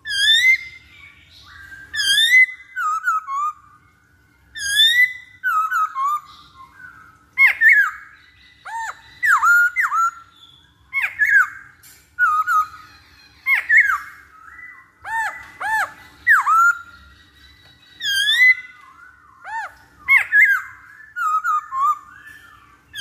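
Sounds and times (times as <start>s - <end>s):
bird singing whistled phrases: 0.0s - 23.0s.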